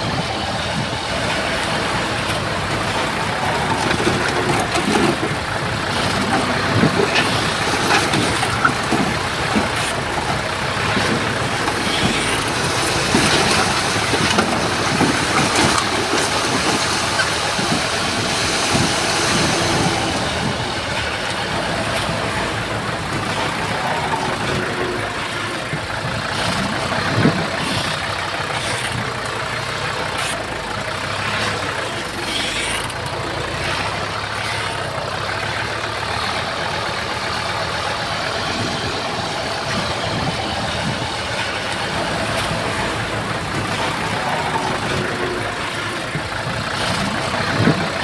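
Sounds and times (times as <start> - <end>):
heavy machine engines running: 0.0 - 48.0
metal clanks and knocks: 2.1 - 48.0.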